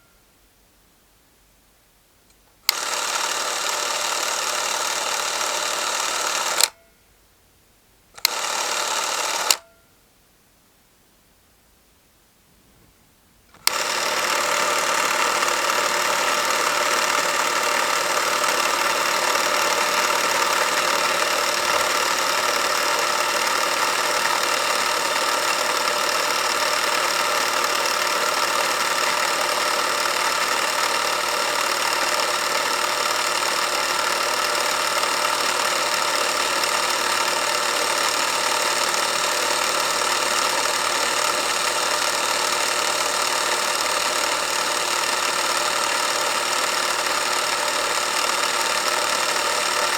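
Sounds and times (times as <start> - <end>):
film camera motor whirring: 2.6 - 6.8, 8.2 - 9.7, 13.6 - 49.9
camera click: 2.7 - 6.8, 8.2 - 9.8, 13.6 - 49.9.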